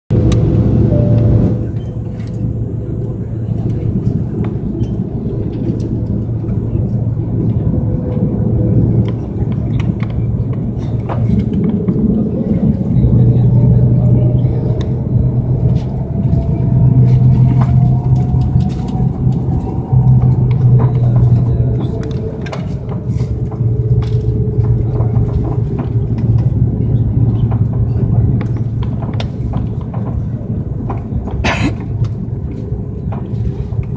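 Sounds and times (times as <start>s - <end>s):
airliner cabin rumble and hum: 0.1s - 33.9s.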